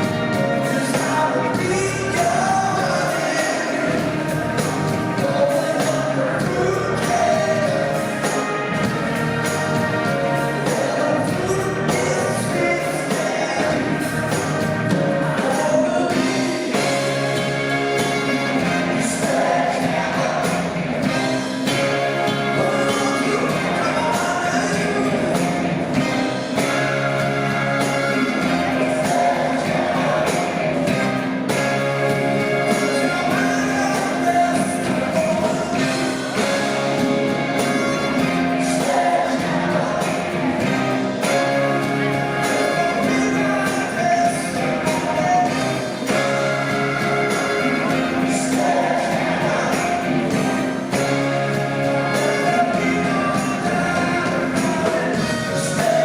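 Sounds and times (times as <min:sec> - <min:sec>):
held bass notes: 0:00.0 - 0:56.0
lead vocals singing: 0:00.0 - 0:56.0
live rock band: 0:00.0 - 0:56.0
steady drum beat: 0:00.0 - 0:56.0.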